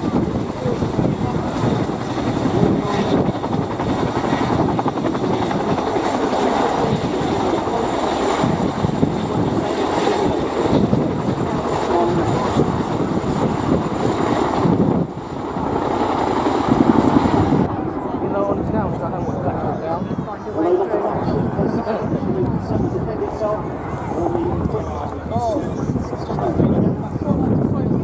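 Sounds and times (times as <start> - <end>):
helicopter rotors beating: 0.0 - 28.0.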